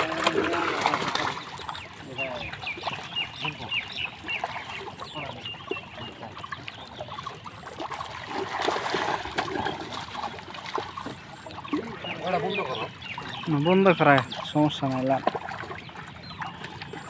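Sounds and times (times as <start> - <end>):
fish thrashing and splashing: 0.0 - 17.0.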